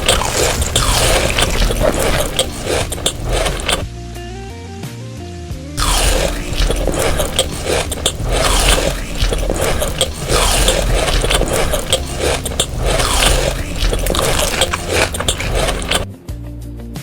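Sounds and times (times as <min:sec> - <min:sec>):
close-up eating scraping and chewing: 0:00.0 - 0:03.9, 0:05.8 - 0:16.1.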